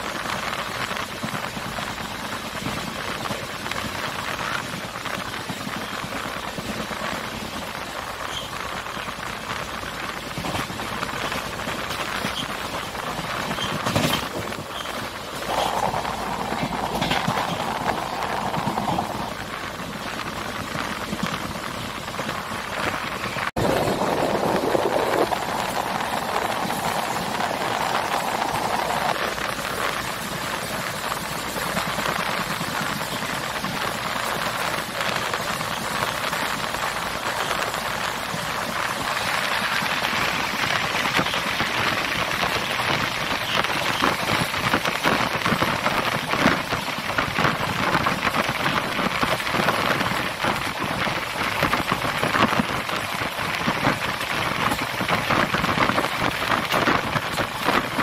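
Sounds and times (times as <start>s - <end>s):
train rattling on track: 0.0s - 58.0s.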